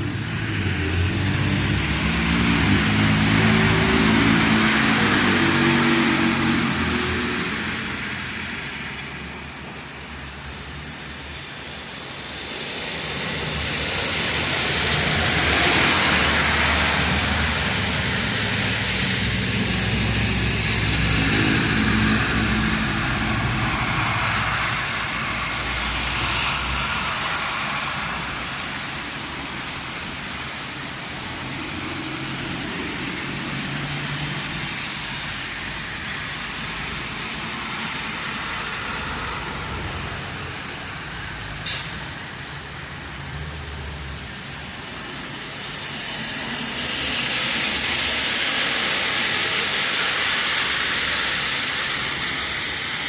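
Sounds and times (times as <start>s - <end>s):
cars on wet road: 0.0s - 53.0s
heavy rain hissing: 0.0s - 53.0s.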